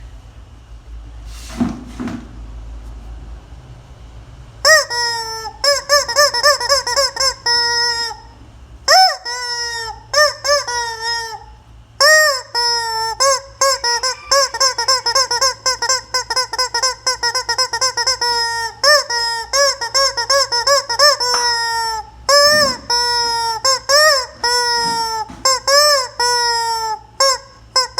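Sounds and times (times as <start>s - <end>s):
squeaky toy chicken squeaking: 4.6s - 8.3s, 8.9s - 27.9s.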